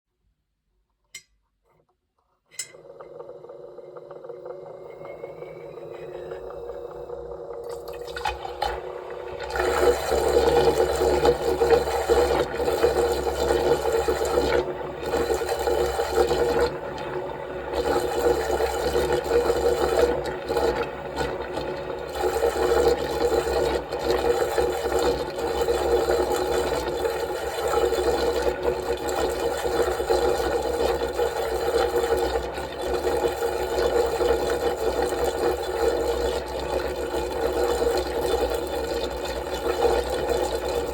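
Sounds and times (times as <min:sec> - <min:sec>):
magnetic stirrer running: 0:02.6 - 0:40.9
swirling water: 0:03.1 - 0:40.9.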